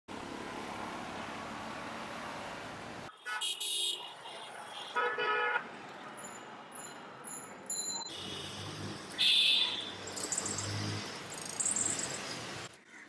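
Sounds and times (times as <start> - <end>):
street traffic noise: 0.1 - 13.0.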